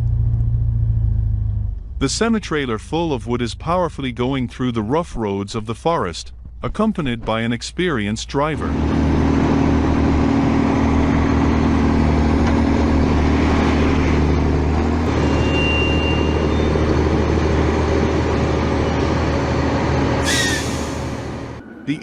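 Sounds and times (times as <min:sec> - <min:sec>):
truck diesel engine under load: 0:00.0 - 0:04.4, 0:07.8 - 0:21.6.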